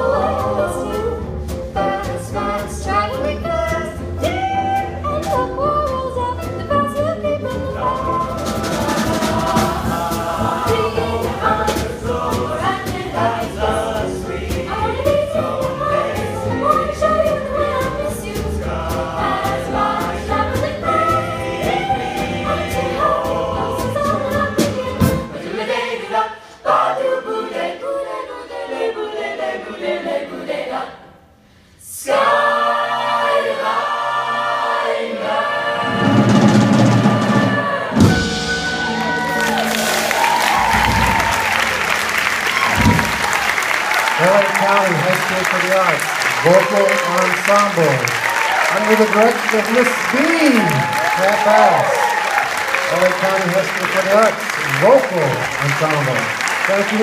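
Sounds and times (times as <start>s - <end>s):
drum kit: 0.0s - 25.4s, 35.8s - 57.0s
vocal ensemble singing in harmony: 0.0s - 55.3s.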